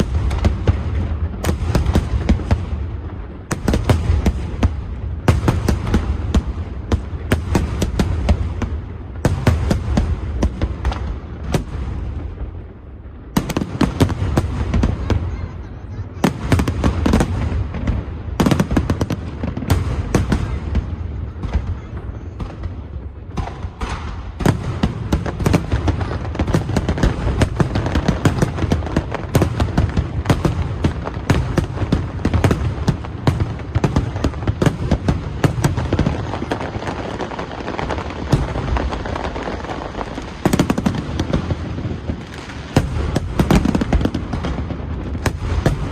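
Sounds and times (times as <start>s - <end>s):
fireworks booming: 0.0s - 45.9s
fireworks crackling: 0.0s - 45.9s.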